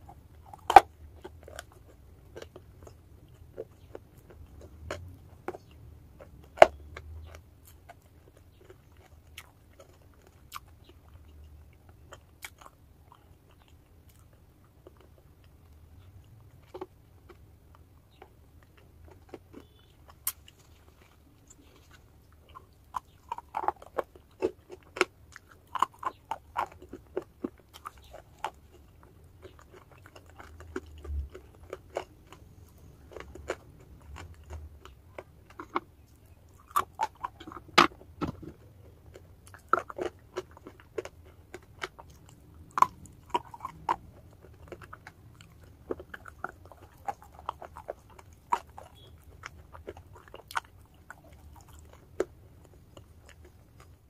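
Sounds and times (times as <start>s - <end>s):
chewing chalk crunches: 0.0s - 54.0s.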